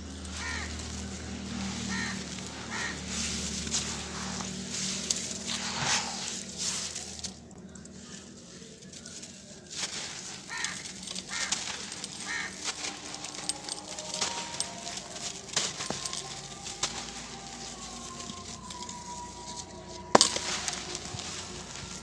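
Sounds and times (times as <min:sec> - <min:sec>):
hands crumbling dry chunks: 0:00.0 - 0:07.9, 0:08.9 - 0:22.0
grains pattering down: 0:00.0 - 0:22.0.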